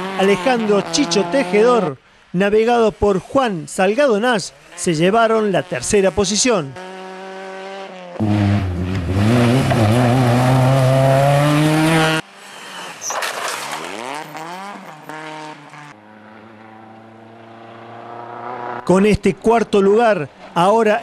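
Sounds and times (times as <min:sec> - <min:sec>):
rally car engine revving: 0:00.0 - 0:01.9, 0:04.5 - 0:19.5.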